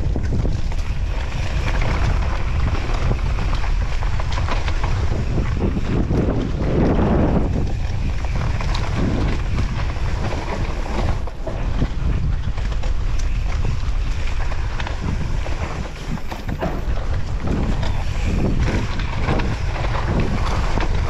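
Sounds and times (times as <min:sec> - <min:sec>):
mountain bike rattling and knocking: 0:00.0 - 0:21.0
wind buffeting microphone: 0:00.0 - 0:21.0.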